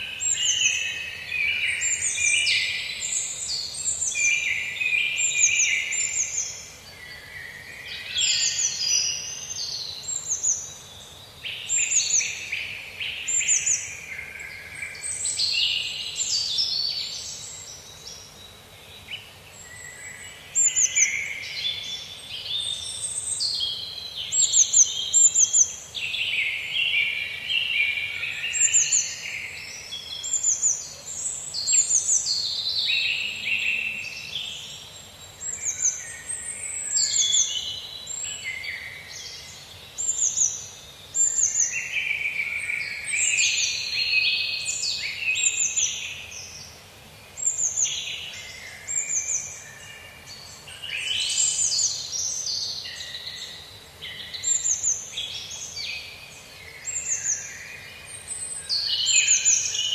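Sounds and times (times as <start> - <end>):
faint steady hiss: 0.0 - 59.9
songbirds singing and chirping: 0.0 - 59.9.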